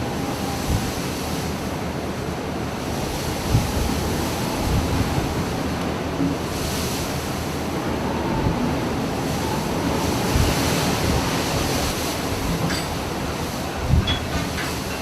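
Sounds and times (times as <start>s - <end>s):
heavy sea waves: 0.0s - 15.0s
storm wind: 0.0s - 15.0s
wind gusts rumbling on microphone: 0.0s - 15.0s.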